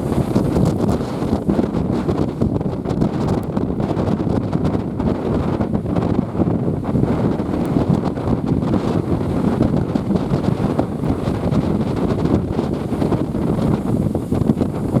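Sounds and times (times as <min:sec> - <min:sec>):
rough sea surf: 0:00.0 - 0:15.0
wind buffeting microphone: 0:00.0 - 0:15.0.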